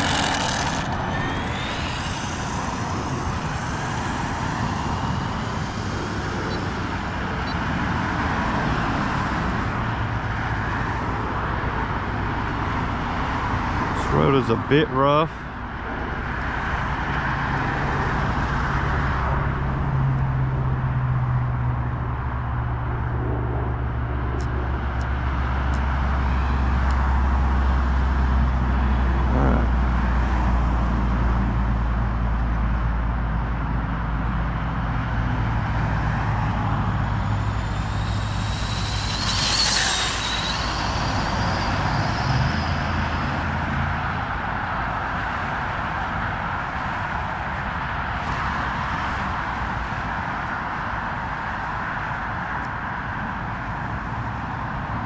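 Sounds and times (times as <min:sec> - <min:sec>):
rc car passing with whine: 0:00.0 - 0:32.4, 0:34.0 - 0:50.9
highway traffic drone: 0:00.0 - 0:55.0.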